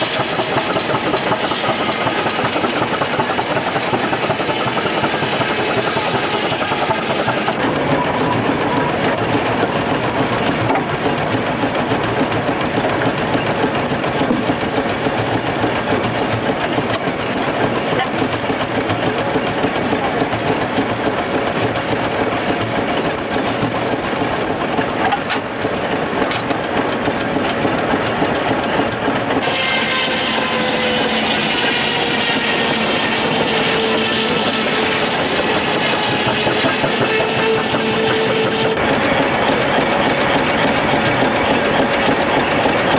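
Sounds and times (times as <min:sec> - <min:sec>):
circular saw cutting logs: 0:00.0 - 0:42.9
steam engine and flywheel running: 0:00.0 - 0:42.9.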